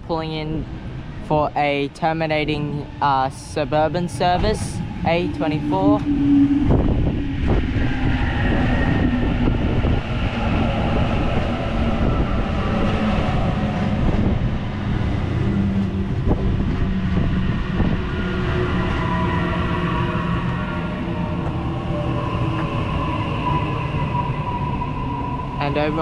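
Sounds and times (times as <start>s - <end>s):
electric train running: 4.1s - 26.0s
whining electric drive: 4.4s - 26.0s.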